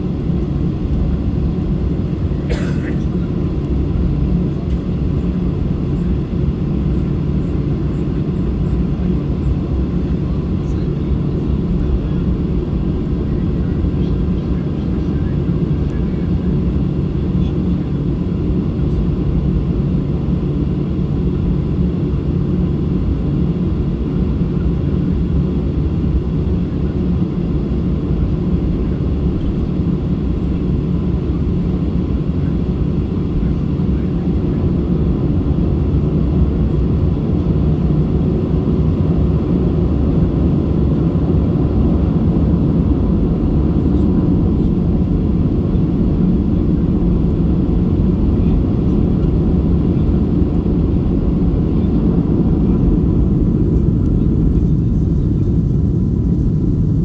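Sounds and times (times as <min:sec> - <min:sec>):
airliner cabin hum: 0:00.0 - 0:57.0.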